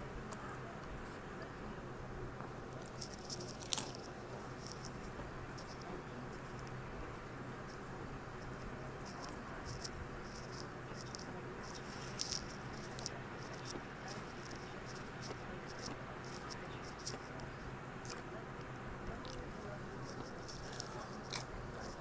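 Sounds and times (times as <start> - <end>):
steady low hum: 0.0 - 22.0
man chewing food: 2.7 - 6.8, 8.4 - 22.0.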